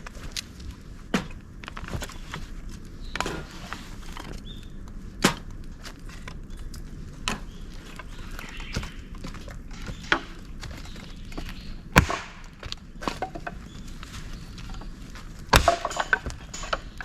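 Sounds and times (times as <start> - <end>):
fire cracking and popping: 0.0 - 17.0
light fire crackling: 0.0 - 17.0.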